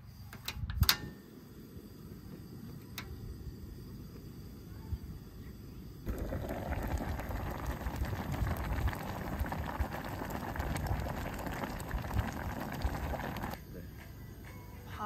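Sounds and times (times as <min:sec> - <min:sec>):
stew boiling and bubbling: 0:01.2 - 0:14.5.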